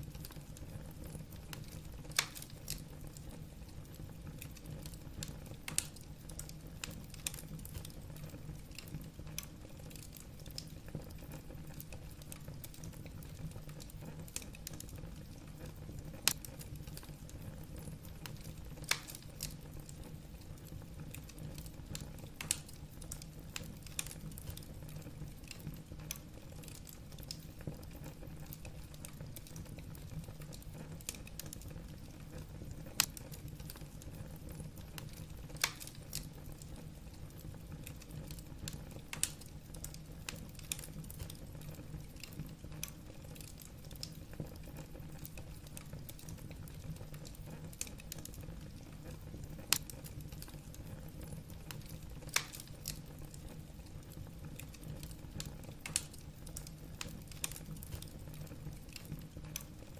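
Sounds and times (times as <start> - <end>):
fire crackling: 0.0 - 59.9
low rumble of flames: 0.0 - 59.9.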